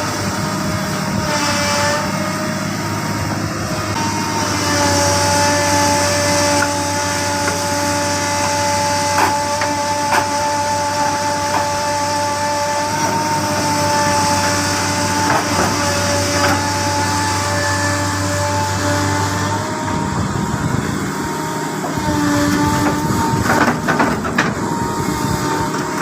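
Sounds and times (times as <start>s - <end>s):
excavator diesel engine running: 0.0s - 26.0s
high whine: 0.0s - 26.0s.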